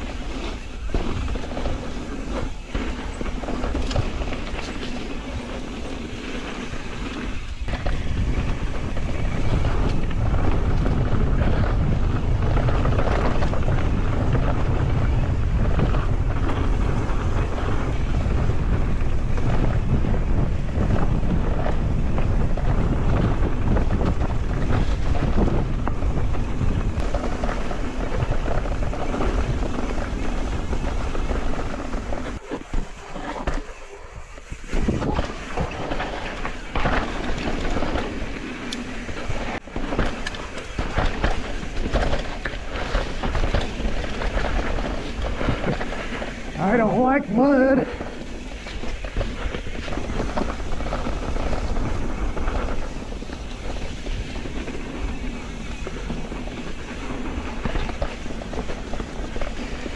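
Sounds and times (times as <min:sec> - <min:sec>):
bike tyres rumbling: 0:00.0 - 0:59.9
wind rushing over microphone: 0:00.0 - 0:59.9.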